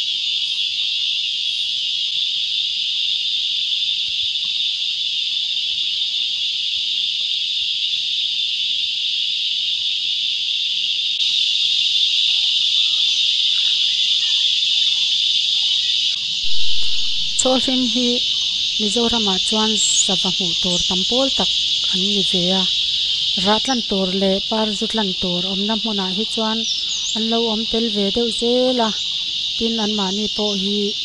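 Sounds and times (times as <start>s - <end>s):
shrill insect chorus: 0.0s - 31.0s.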